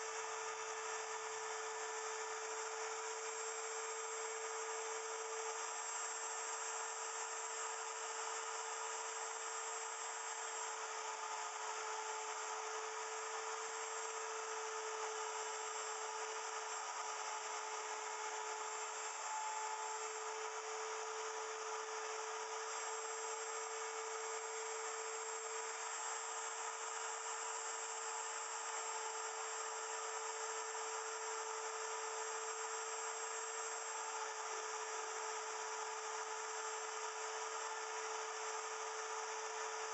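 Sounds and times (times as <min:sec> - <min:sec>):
wood router whining: 0:00.0 - 0:08.1, 0:08.7 - 0:39.9.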